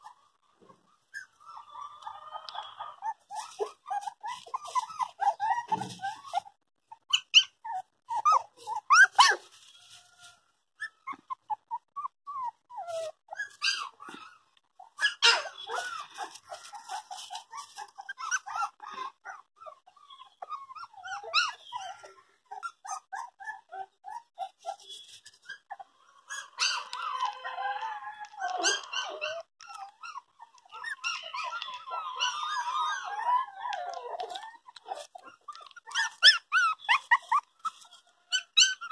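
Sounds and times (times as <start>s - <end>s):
puppies whining and yelping: 0.0s - 10.1s, 10.7s - 38.9s.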